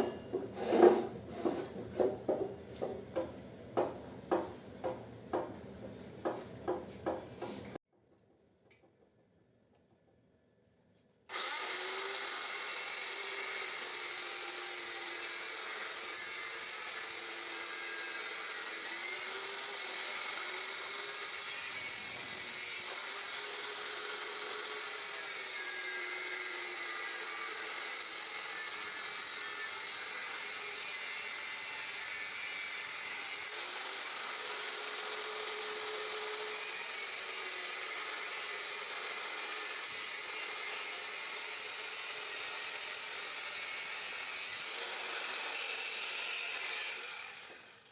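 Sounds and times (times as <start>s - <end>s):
power tool cutting steel: 0.0s - 3.4s, 11.3s - 47.9s.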